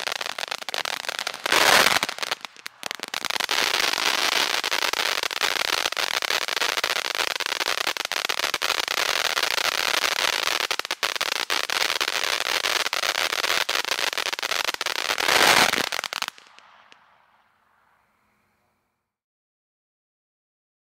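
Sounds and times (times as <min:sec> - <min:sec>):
firework fountain hissing and crackling: 0:00.0 - 0:18.2.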